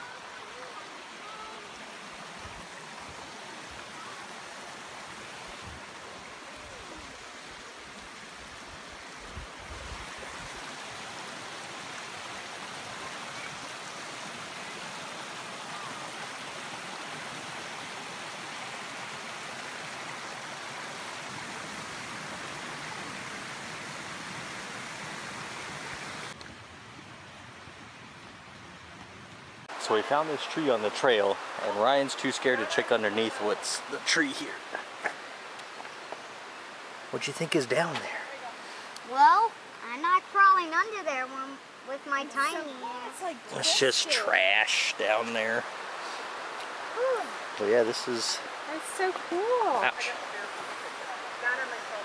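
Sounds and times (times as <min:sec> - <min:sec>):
creek rushing over stones: 0:00.0 - 0:52.0.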